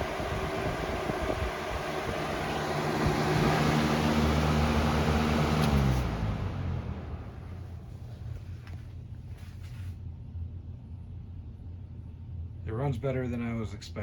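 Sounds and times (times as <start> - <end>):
fan air rush: 0.0 - 14.0
fan motor hum: 0.0 - 14.0.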